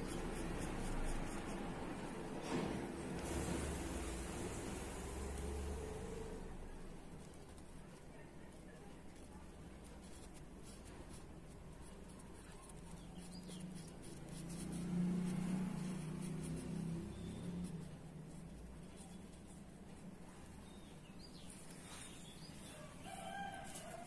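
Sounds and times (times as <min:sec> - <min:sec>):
marker scratching on paper: 0:00.0 - 0:24.0.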